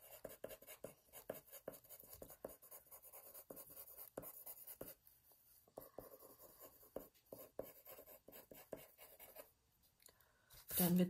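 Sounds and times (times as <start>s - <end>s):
pencil scratching on paper: 0.0s - 9.5s.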